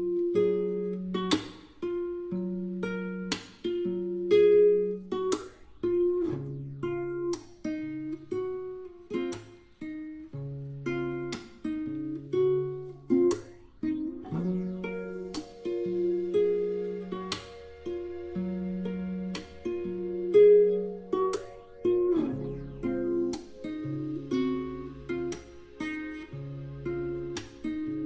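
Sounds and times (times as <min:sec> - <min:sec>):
acoustic guitar plucked chords: 0:00.0 - 0:28.0.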